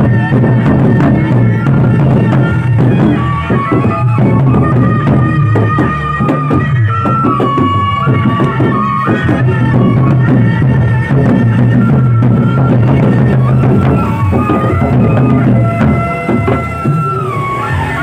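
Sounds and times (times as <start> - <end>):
barrel drums beaten: 0.0 - 18.0
wind instrument melody: 0.0 - 18.0.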